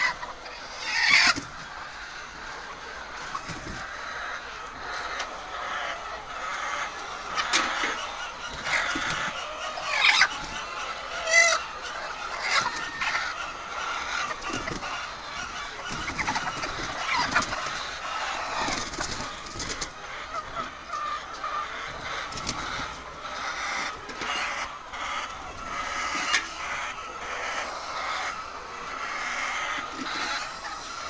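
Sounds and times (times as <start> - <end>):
hens clucking and squawking: 0.0 - 31.0.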